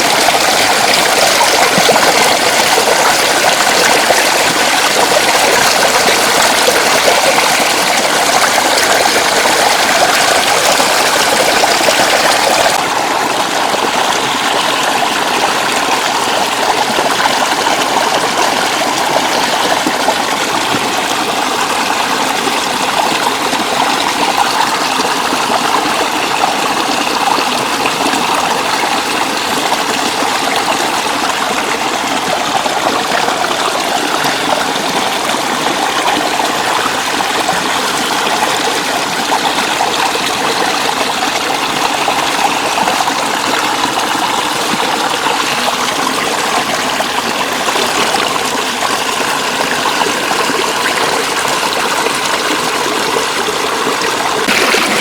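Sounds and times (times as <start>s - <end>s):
floodwater flowing: 0.0s - 55.0s.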